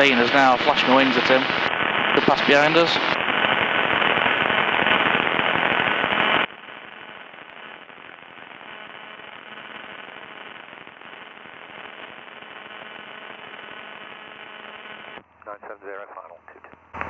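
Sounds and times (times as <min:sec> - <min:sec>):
radio static crackling: 0:00.0 - 0:17.0.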